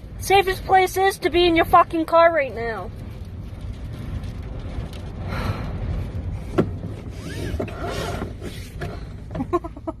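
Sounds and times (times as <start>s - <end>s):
low rumble inside car: 0.0s - 10.0s.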